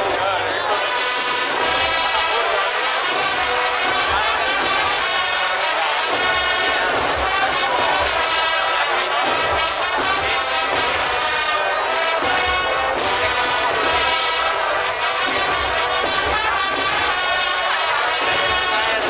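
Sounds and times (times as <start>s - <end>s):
brass band playing a march: 0.0s - 19.0s
low drums beating: 0.0s - 19.0s.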